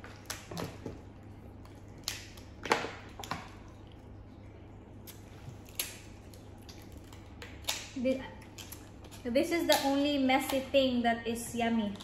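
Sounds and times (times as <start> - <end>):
wet squishing: 0.0 - 10.8.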